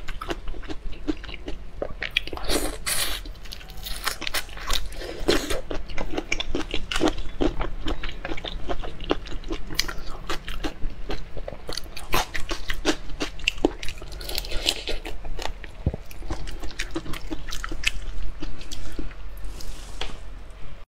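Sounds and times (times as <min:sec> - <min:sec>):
chewing crunchy shrimp shells: 0:00.0 - 0:19.2.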